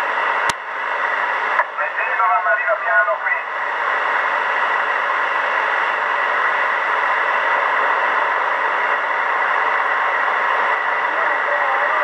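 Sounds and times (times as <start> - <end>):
radio static hiss from loudspeaker: 0.0 - 12.0.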